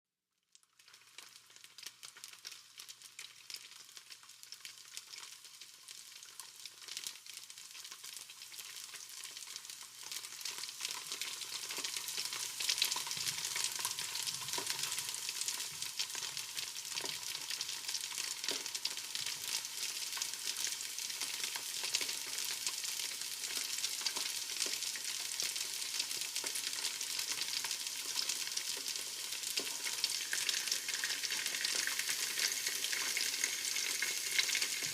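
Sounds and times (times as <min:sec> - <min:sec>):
food frying with crackles and pops: 0:00.3 - 0:34.9.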